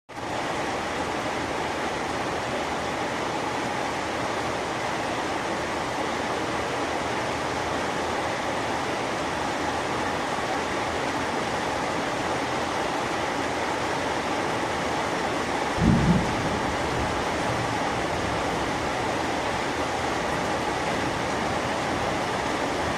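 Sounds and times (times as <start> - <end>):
heavy rain: 0.1 - 22.9.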